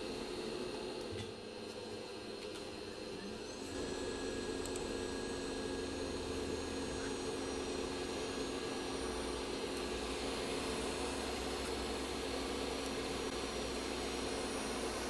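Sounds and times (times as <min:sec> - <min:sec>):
hot air station blowing air: 0:00.0 - 0:15.0.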